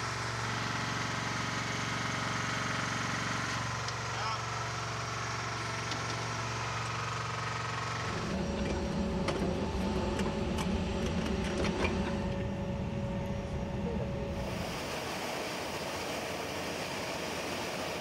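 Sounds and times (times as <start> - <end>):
engine idling: 0.0 - 18.0
rough machinery rumble: 0.0 - 18.0.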